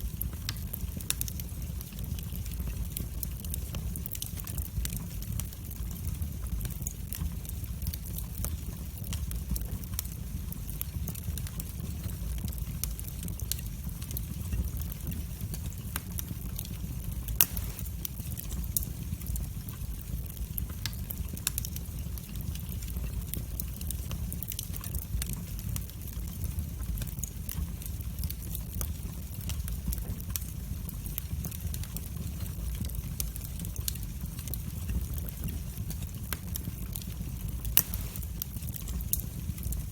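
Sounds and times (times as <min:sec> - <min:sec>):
fire crackles and pops: 0:00.0 - 0:39.9
fire flames rumbling: 0:00.0 - 0:39.9.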